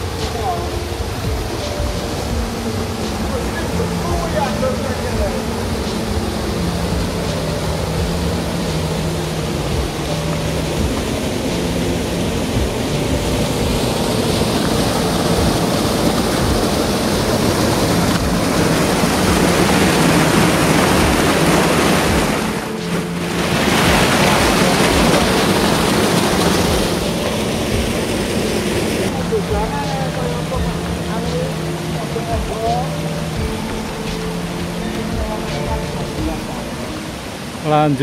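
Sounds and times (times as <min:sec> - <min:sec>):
flowing water rushing: 0:00.0 - 0:38.0.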